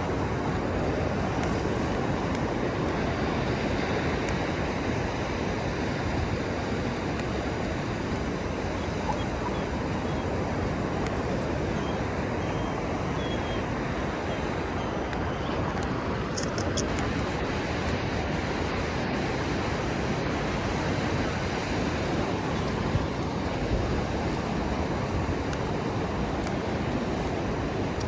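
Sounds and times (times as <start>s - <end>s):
ocean surf washing ashore: 0.0s - 28.0s.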